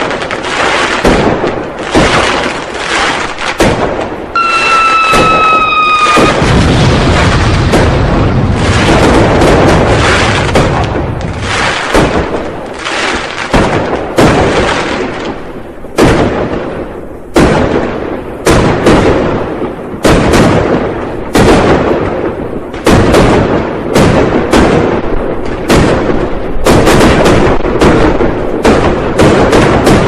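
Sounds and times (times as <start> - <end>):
firecrackers exploding: 0.0 - 30.0.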